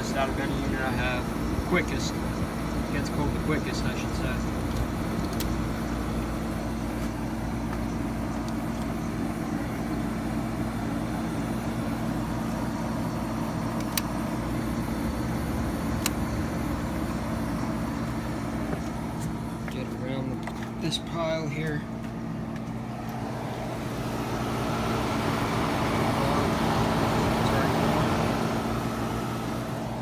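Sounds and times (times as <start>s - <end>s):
window air conditioner humming: 0.0s - 30.0s.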